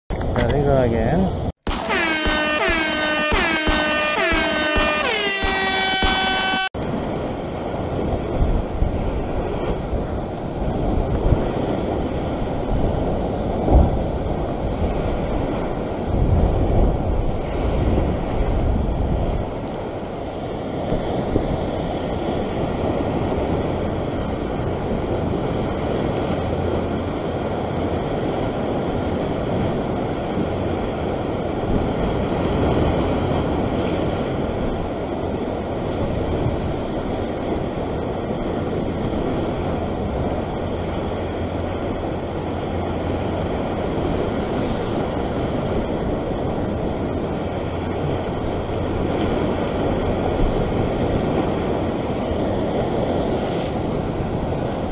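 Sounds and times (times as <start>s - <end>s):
wind buffeting microphone: 6.4s - 54.9s.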